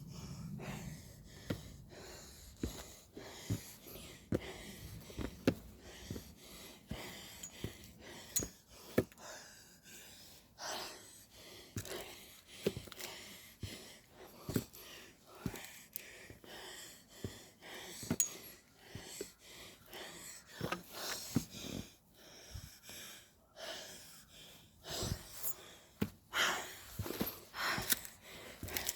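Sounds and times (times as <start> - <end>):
person breathing hard: 0.0 - 28.9.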